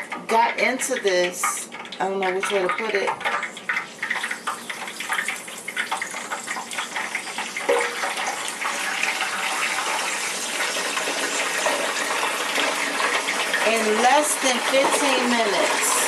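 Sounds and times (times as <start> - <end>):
fries sizzling in hot oil: 0.0 - 16.0.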